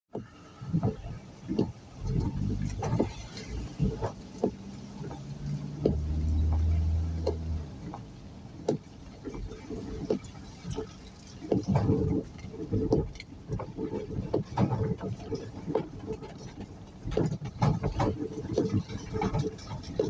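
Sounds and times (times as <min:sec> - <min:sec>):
vehicle engine hum: 0:00.1 - 0:20.0.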